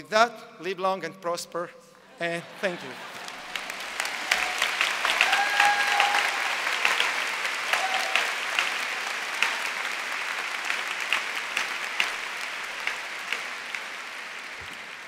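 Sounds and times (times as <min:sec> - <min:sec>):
large audience applauding: 0:02.6 - 0:15.0.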